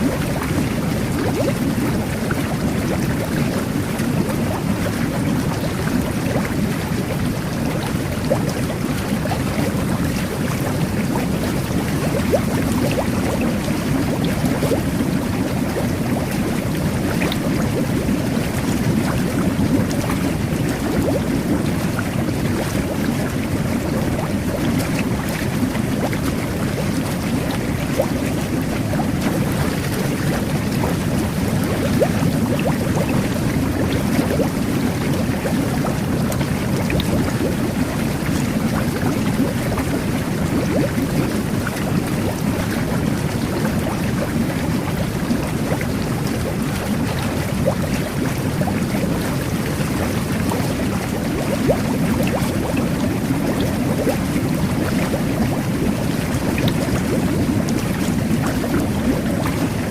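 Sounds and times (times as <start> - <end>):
bubbles popping: 0.0 - 59.9
whirlpool bath churning water: 0.0 - 59.9.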